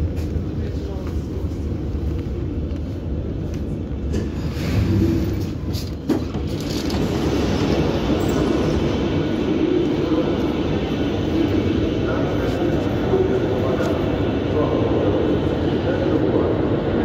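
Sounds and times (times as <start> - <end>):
train rumbling and braking: 0.0 - 17.0.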